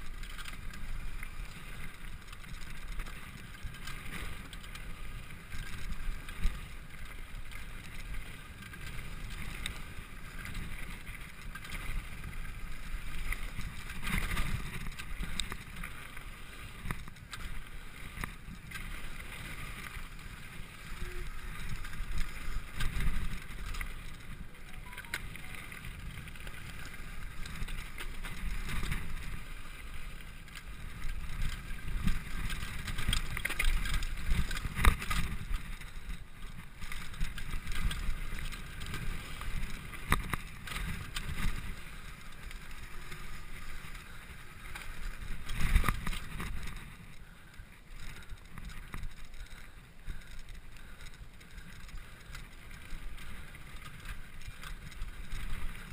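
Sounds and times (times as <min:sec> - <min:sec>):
bike tyres rattling over gravel: 0:00.0 - 0:55.9.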